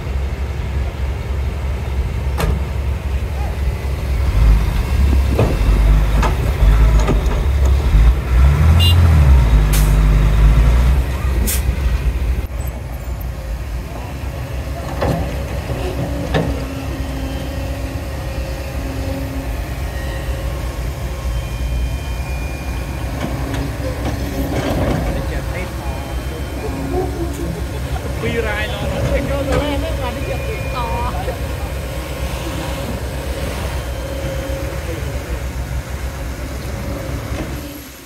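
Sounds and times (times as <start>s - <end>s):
bulldozer diesel engine: 0.0s - 38.0s.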